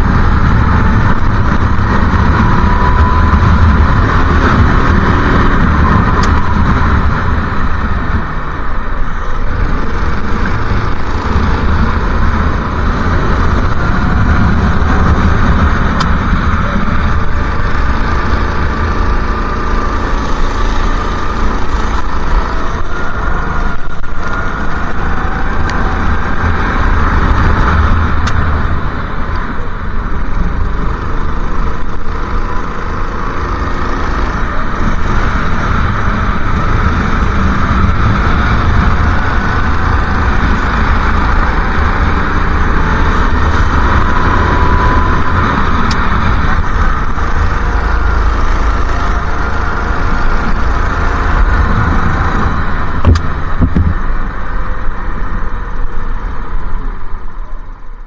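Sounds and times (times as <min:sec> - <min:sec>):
go-kart engine racing: 0:00.0 - 0:58.0
wind rumble on microphone: 0:00.0 - 0:58.0.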